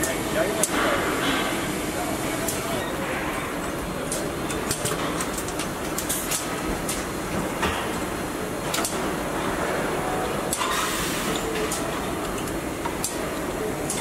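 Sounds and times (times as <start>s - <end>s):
steady factory hum: 0.0s - 14.0s.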